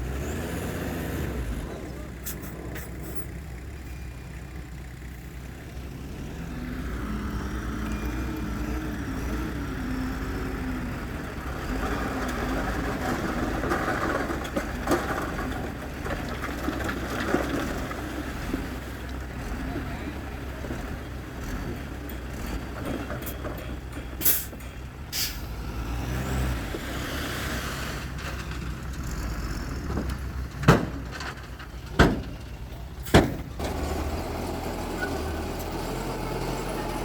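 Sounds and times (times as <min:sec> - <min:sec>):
diesel machinery rumbling: 0:00.0 - 0:37.0.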